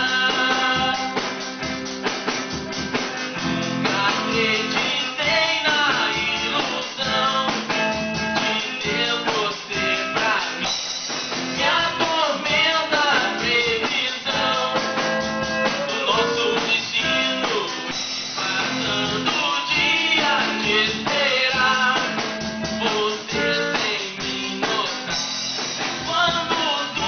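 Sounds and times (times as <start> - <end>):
person singing: 0.0 - 1.6, 2.8 - 10.7, 11.6 - 25.2, 26.0 - 27.0
drums: 0.0 - 27.0
guitar: 0.0 - 27.0.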